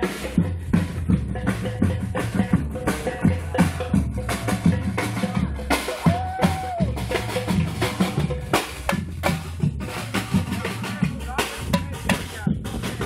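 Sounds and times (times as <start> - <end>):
bass drum thumps: 0.0 - 13.0
percussion band drumming: 0.0 - 13.0.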